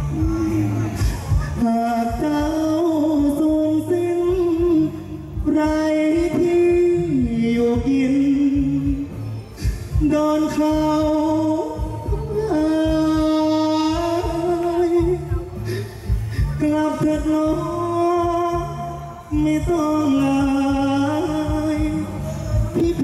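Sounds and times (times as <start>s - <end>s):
amplified backing band: 0.0s - 23.0s
person singing into a microphone: 0.0s - 23.0s.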